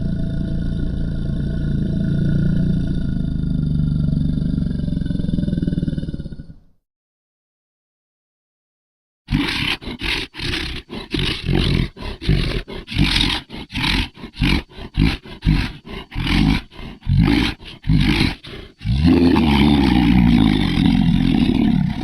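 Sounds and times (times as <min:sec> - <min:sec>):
monster roaring: 0:00.0 - 0:06.7, 0:09.3 - 0:22.0.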